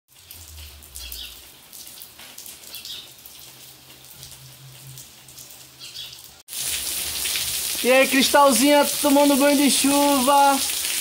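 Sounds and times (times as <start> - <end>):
steady rain falling: 0.1 - 11.0.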